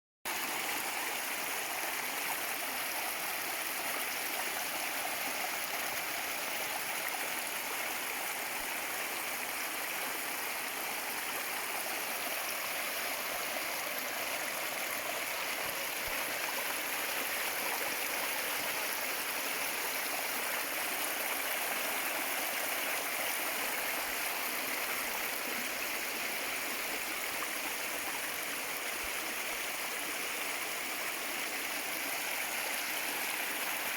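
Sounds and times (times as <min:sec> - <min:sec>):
stream rushing over rocks: 0:00.3 - 0:33.9.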